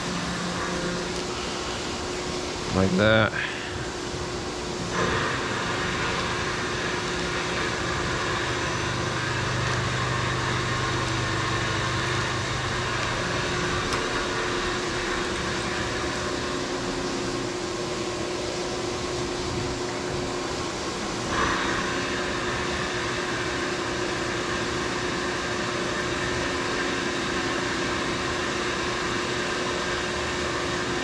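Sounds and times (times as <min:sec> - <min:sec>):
coolant hissing: 0:00.0 - 0:31.0
machine hum: 0:00.0 - 0:31.0.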